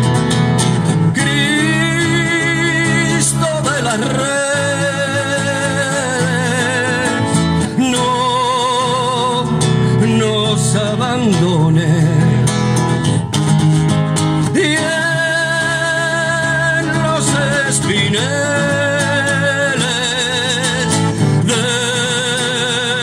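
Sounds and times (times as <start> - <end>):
strummed acoustic guitar: 0.0 - 23.0
man singing with vibrato: 1.0 - 13.2, 14.4 - 23.0.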